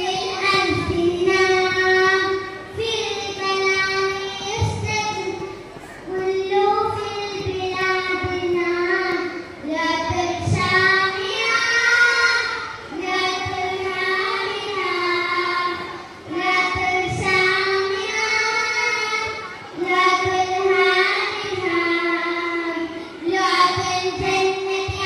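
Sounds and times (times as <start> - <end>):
child singing: 0.0 - 5.5, 6.1 - 25.0.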